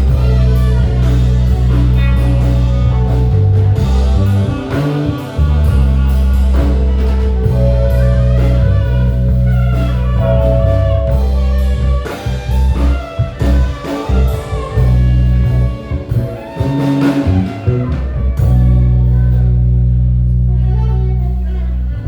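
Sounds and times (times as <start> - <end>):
bass guitar: 0.0 - 22.0
drum kit: 0.0 - 22.0
electric guitar: 0.0 - 22.0
keyboard: 0.0 - 22.0.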